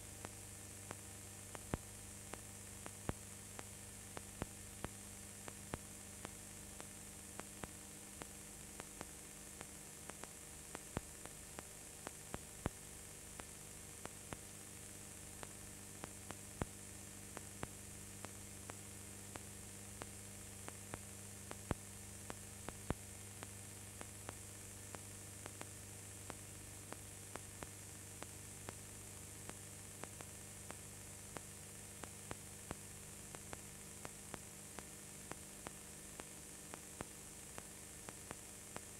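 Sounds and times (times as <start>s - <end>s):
mains hum and hiss: 0.0s - 38.9s.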